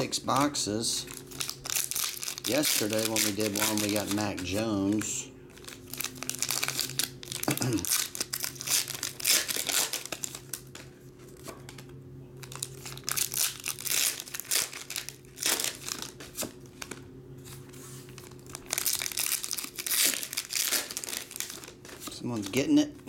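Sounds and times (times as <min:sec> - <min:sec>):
plastic wrappers tearing and crinkling: 0:00.3 - 0:11.8, 0:12.4 - 0:17.0, 0:18.0 - 0:22.8.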